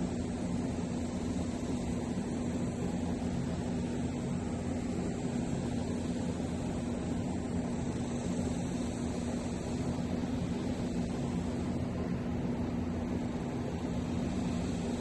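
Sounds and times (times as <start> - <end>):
machine hum with rushing noise: 0.0 - 15.0.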